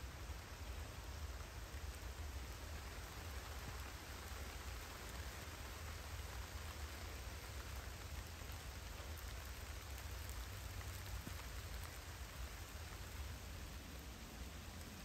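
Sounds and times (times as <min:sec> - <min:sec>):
light rain on trees: 0:00.0 - 0:15.0.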